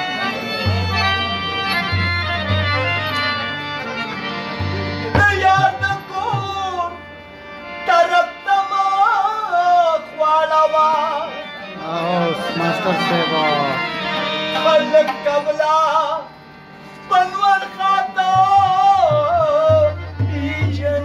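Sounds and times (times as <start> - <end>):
harmonium tones: 0.0 - 21.0.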